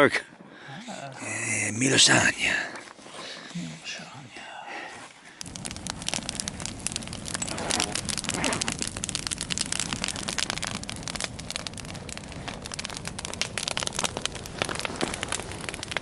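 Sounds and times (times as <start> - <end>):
fire crackling: 1.2 - 16.0.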